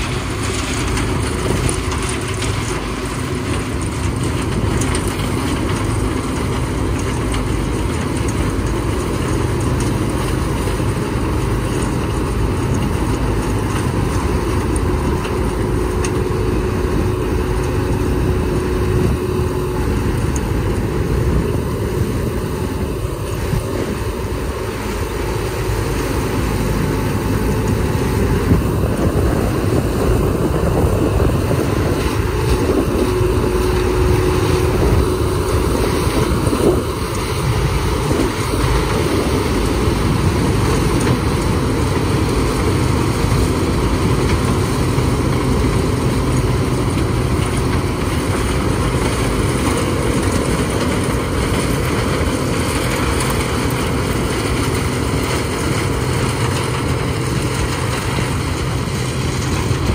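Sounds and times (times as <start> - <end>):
combine harvester drone: 0.0 - 59.9.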